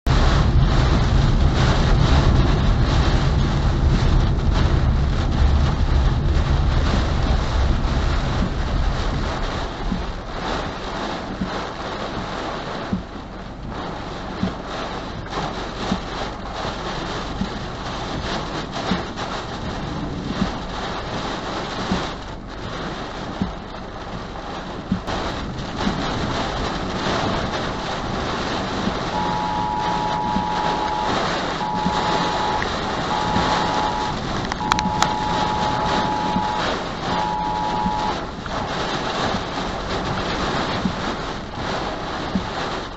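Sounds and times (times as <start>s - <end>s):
heavy rain hiss: 0.1s - 42.9s
wind gusts buffeting microphone: 0.1s - 42.9s.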